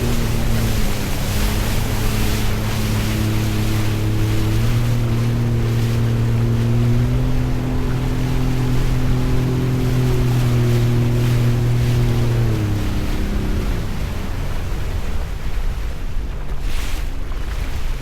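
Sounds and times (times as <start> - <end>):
jet ski engine running: 0.0 - 18.0
rushing water and wind: 0.0 - 18.0.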